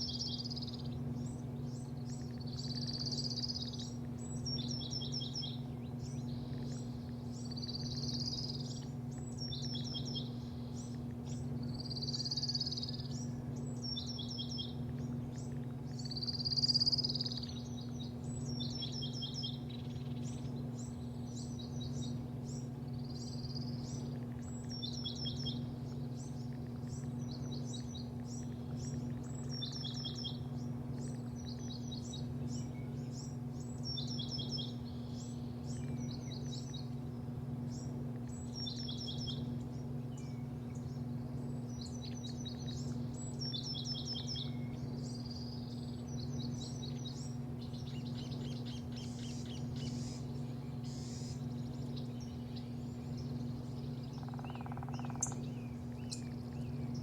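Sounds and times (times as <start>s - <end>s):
birds chirping: 0.0s - 57.0s
low machine hum: 0.0s - 57.0s.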